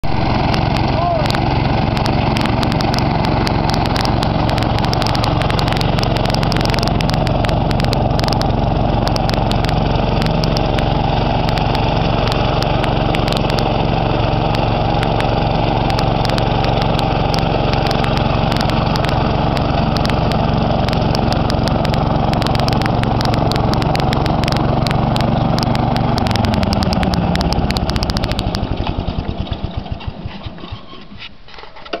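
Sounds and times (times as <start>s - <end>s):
garden tractor engine running: 0.0s - 32.0s.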